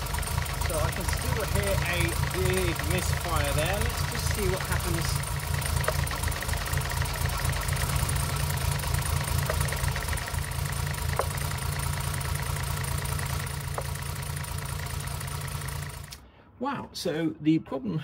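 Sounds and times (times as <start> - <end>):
car engine idling with misfire: 0.0 - 16.2.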